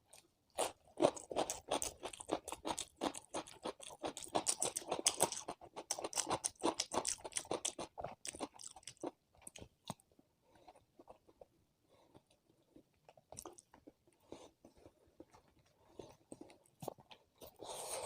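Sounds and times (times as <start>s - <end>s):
chewing and crunching food: 0.0s - 18.0s.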